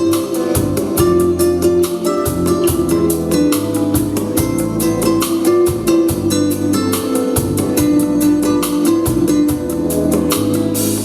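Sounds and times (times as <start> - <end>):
acoustic guitar strumming: 0.0 - 11.0
bass line: 0.0 - 11.0.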